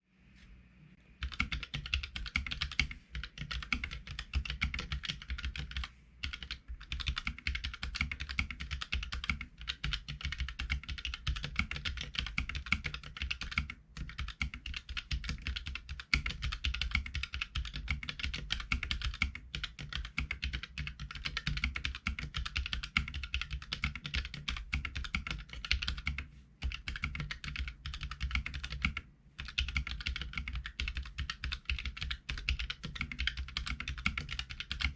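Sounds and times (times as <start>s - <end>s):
fast typing on mechanical keyboard: 1.2s - 34.9s.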